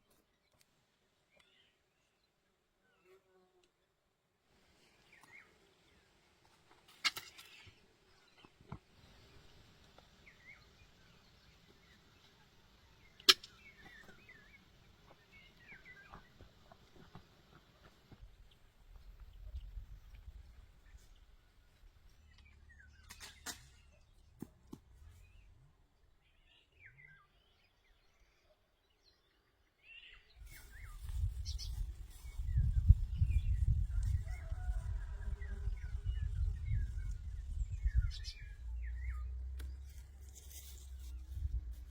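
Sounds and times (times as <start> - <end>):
small birds chirping: 6.9 - 41.9.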